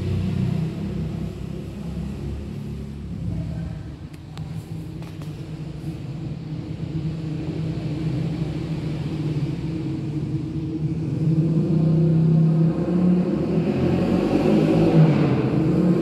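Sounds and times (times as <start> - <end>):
ceiling fan motor humming: 0.0 - 14.2.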